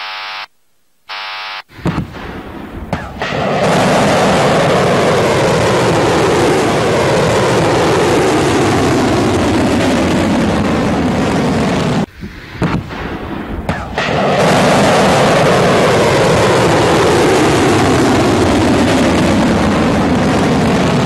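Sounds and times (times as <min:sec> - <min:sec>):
rocket motor exhaust roar: 0:02.1 - 0:21.0.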